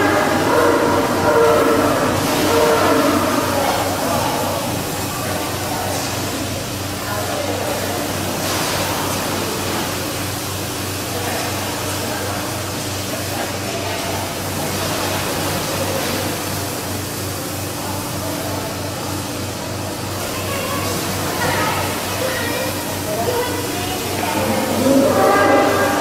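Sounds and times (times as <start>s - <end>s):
milking machinery hiss: 0.0s - 26.0s.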